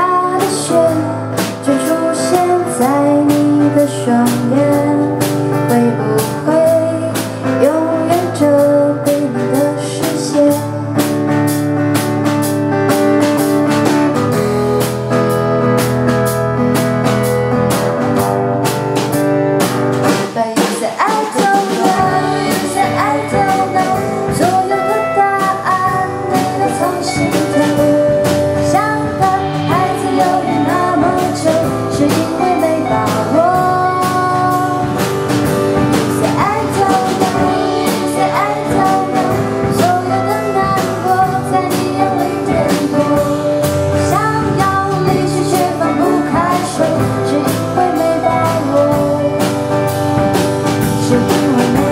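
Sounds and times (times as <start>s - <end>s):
pop-rock band instrumental: 0.0s - 51.9s
sliding lead melody: 0.0s - 51.9s.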